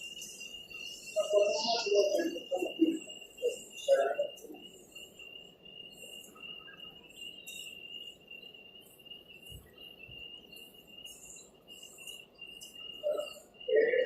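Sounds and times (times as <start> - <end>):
cricket trilling: 0.0 - 14.0.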